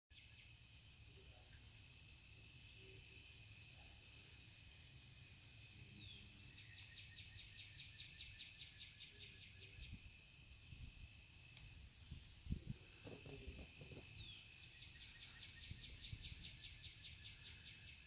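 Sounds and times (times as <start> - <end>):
rapid pulsing chirps: 0.1 - 18.0
high insect drone: 0.2 - 18.0.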